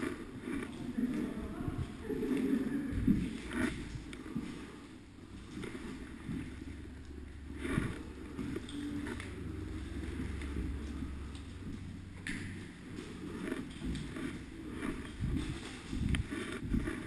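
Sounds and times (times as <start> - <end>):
footsteps walking: 0.0 - 17.0
rustling gear: 0.0 - 17.0
camera handling and wind rumble: 1.6 - 4.5, 5.2 - 17.0.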